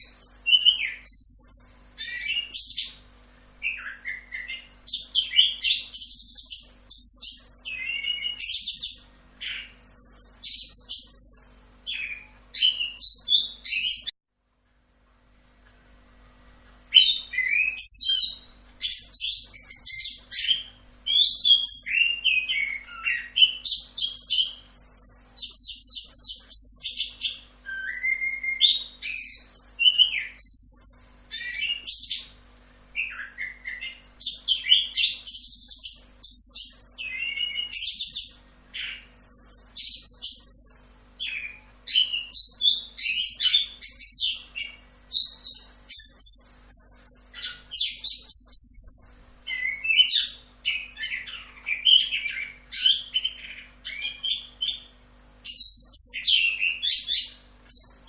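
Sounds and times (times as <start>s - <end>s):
thrush singing whistles and trills: 0.0s - 3.0s, 3.6s - 14.2s, 16.9s - 32.4s, 33.0s - 58.0s.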